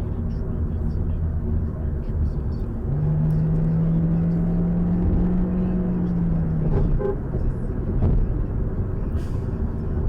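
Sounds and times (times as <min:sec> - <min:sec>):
car road noise: 0:00.0 - 0:10.0.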